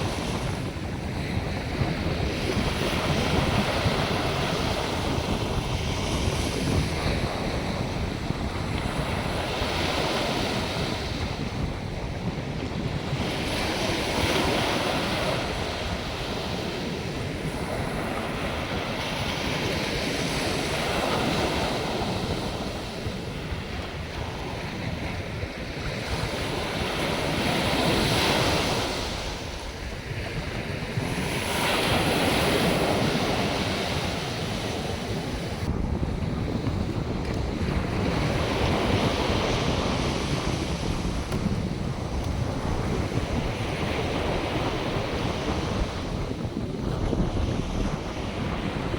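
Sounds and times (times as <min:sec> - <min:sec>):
surf breaking on a beach: 0:00.0 - 0:48.9
wind buffeting microphone: 0:00.0 - 0:48.9.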